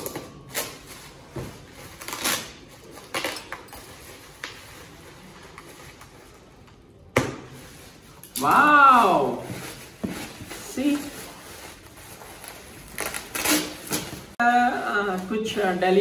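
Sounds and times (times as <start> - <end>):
bubble wrap rustling and crinkling: 0.0 - 16.0.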